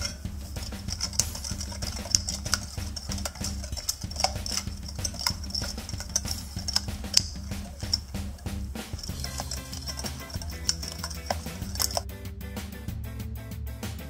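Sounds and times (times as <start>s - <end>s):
wire whisk scraping glass bowl: 0.0s - 12.0s
background music: 0.0s - 14.0s.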